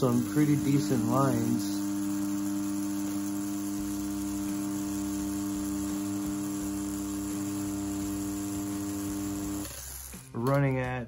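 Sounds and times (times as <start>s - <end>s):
tattoo pen humming: 0.0s - 11.0s.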